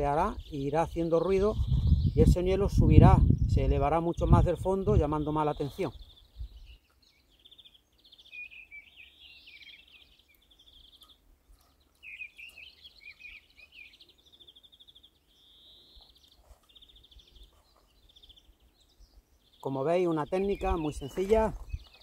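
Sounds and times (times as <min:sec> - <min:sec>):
small birds trilling: 0:00.0 - 0:22.0.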